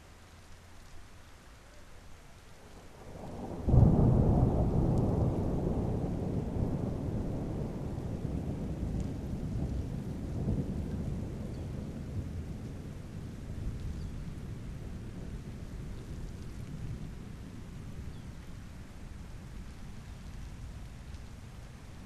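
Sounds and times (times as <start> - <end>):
steady rainfall: 0.0 - 22.0
thunderclap and rumble: 2.8 - 22.0.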